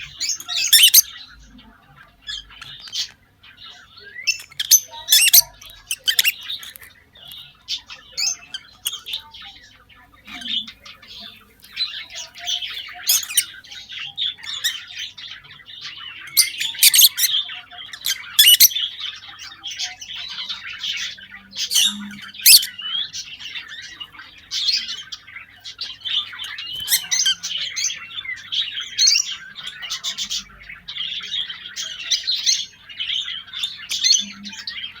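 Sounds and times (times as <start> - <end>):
lovebirds chattering: 0.0 - 35.0.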